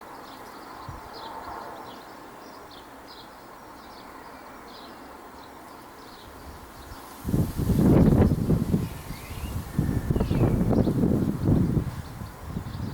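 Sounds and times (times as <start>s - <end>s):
birds chirping: 0.1s - 12.9s.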